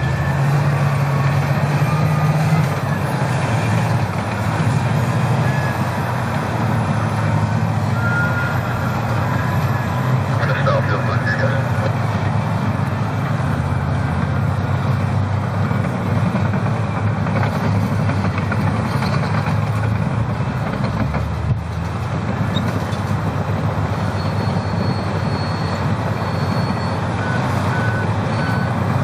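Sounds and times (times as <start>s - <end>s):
heavy diesel engine rumble: 0.0s - 29.0s.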